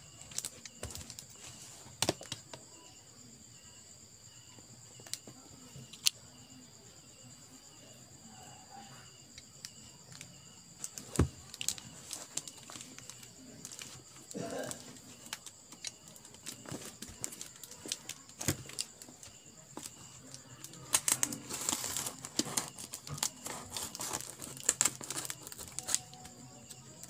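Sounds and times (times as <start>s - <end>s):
high insect trill: 0.0s - 27.0s.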